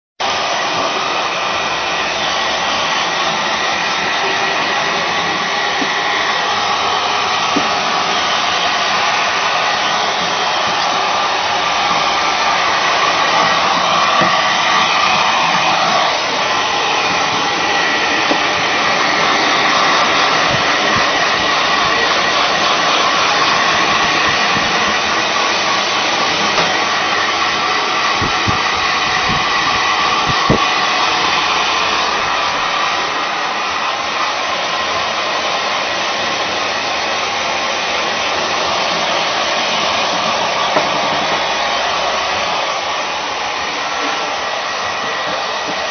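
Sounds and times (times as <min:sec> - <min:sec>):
electric blower running: 0:00.2 - 0:45.9.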